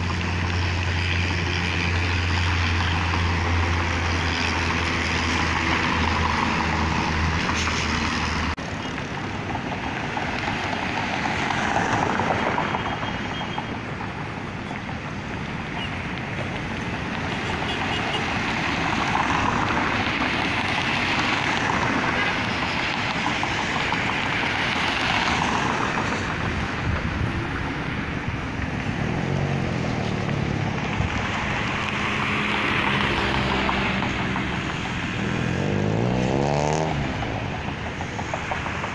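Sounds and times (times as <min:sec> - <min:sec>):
cars passing: 0:00.0 - 0:38.9.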